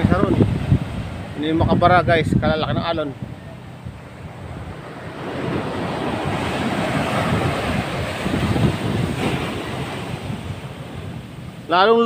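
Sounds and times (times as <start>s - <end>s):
ocean waves breaking: 0.0s - 12.0s
wind buffeting microphone: 0.0s - 12.0s.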